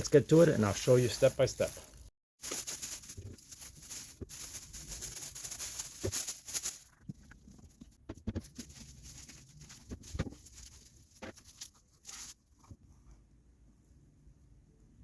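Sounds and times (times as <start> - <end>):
scratching and rustling: 0.0 - 13.1.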